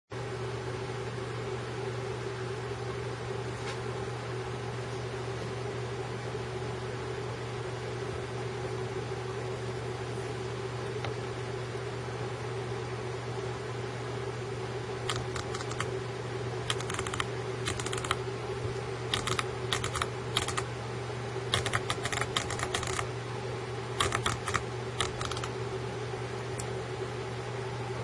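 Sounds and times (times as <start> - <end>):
steady low hum: 0.1 - 28.0.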